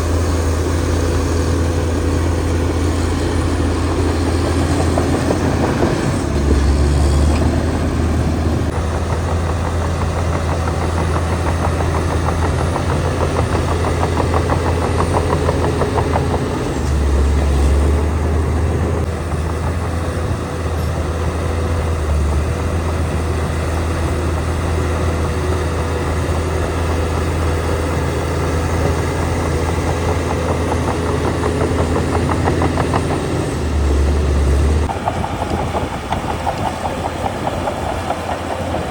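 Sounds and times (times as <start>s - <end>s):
heavy diesel engine droning: 0.0s - 38.9s.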